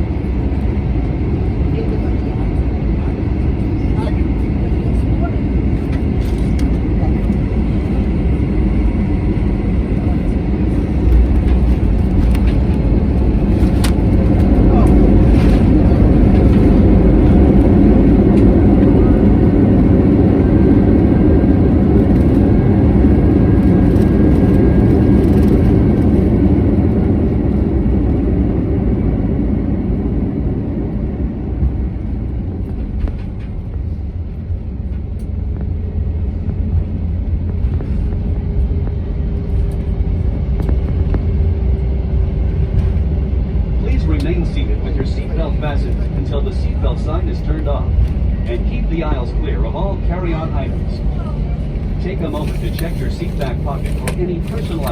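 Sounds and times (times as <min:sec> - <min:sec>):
jet engines and wheels rumbling: 0:00.0 - 0:54.9.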